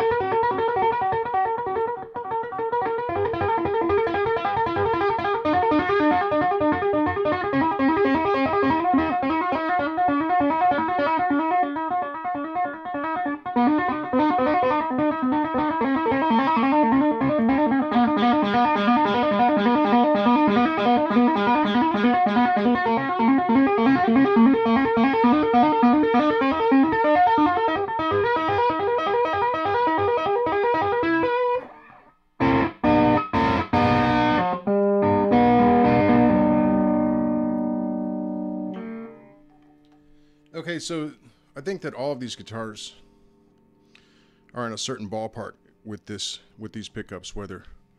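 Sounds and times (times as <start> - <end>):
electric guitar chord stabs: 0.0 - 40.4
electric guitar single-note lines: 0.0 - 40.4.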